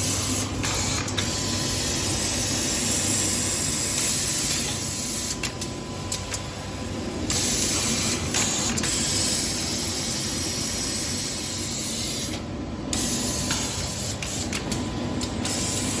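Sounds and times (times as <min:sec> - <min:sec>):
machine running with hiss: 0:00.0 - 0:16.0.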